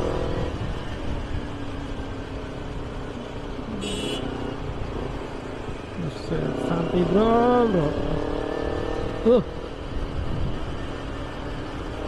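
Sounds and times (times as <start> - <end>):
motorcycle engine cruising: 0.0 - 12.0
riding wind rumble: 0.0 - 12.0.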